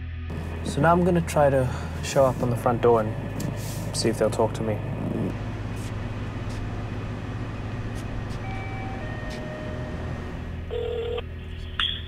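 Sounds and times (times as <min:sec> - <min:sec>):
low outdoor rumble: 0:00.1 - 0:12.0.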